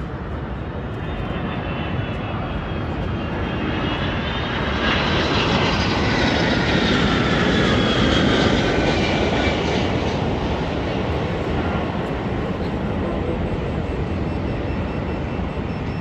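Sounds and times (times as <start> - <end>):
jet engines roaring and whining: 0.0 - 16.0.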